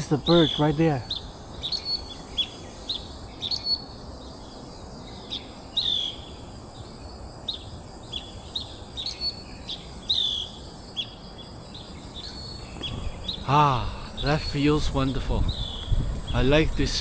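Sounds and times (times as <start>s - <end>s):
birds chirping: 0.0s - 6.9s, 7.5s - 17.0s
cicada drone: 0.0s - 17.0s.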